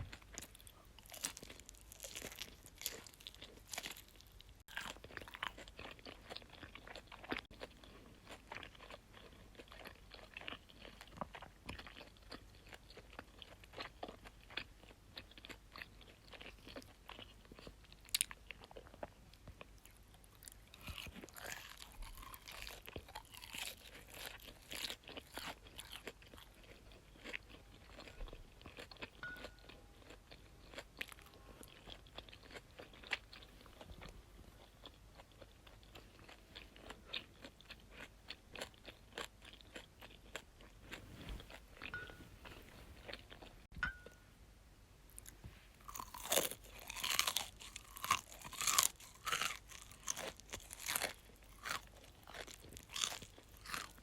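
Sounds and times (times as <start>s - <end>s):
chewing crunchy food: 0.0s - 44.2s, 45.2s - 54.0s.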